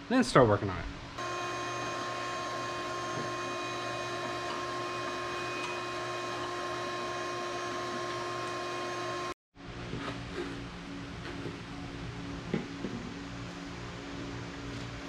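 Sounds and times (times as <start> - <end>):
shop vacuum running: 1.2 - 15.0.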